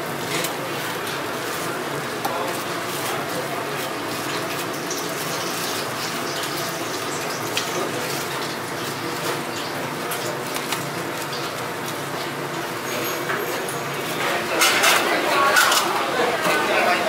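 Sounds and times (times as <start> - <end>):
rushing hissing kitchen noise: 0.0 - 17.0.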